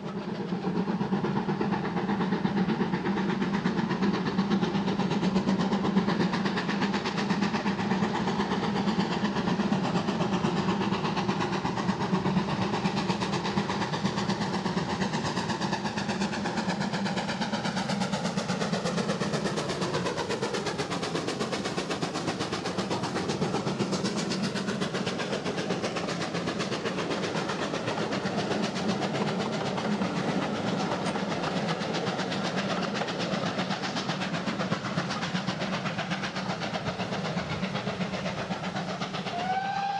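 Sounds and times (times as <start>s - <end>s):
steam locomotive exhaust beat: 0.0s - 39.9s.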